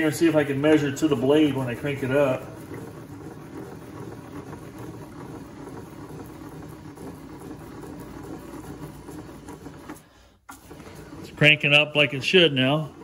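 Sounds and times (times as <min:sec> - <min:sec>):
hand crank whirring and rattling: 0:00.0 - 0:13.0.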